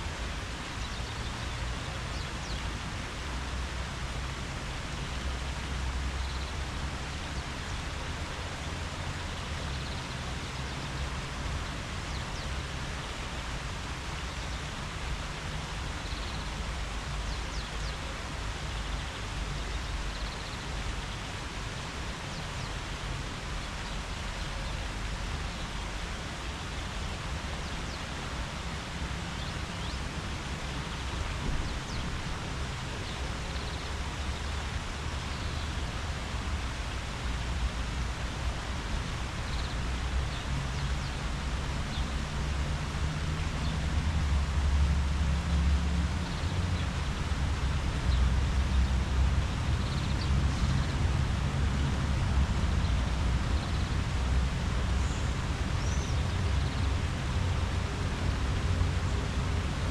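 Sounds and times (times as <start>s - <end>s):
leaves rustling in breeze: 0.0s - 59.9s.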